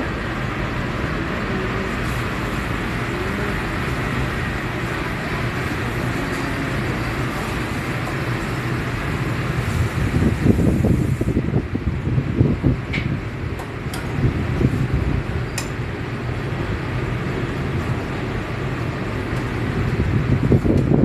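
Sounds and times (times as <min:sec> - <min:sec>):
constant low hum: 0:00.0 - 0:21.0
kitchen ventilation roar: 0:00.0 - 0:21.0.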